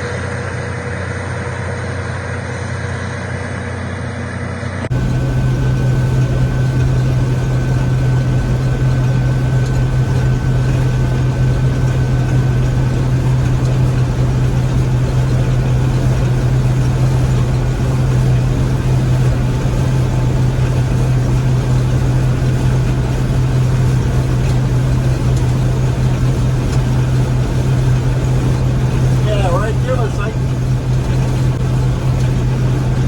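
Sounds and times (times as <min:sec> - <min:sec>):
combine harvester drone: 0:00.0 - 0:33.0.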